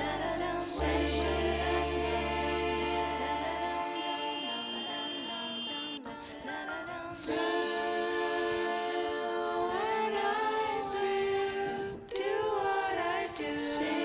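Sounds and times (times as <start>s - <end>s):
voices singing long held notes: 0.0s - 14.0s.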